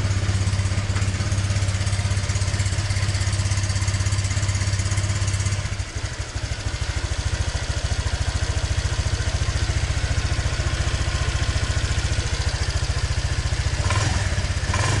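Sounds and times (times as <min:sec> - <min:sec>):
scooter engine idling: 0:00.0 - 0:15.0.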